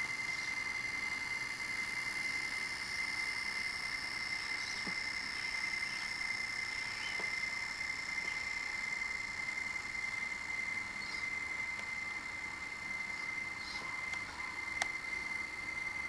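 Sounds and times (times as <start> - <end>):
model train motor whine: 0.0 - 16.0.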